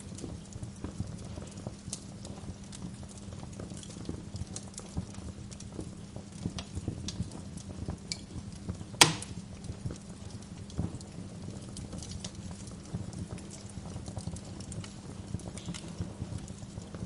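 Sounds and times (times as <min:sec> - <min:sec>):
wood fire crackling: 0:00.0 - 0:17.0
low steady hum: 0:03.2 - 0:17.0.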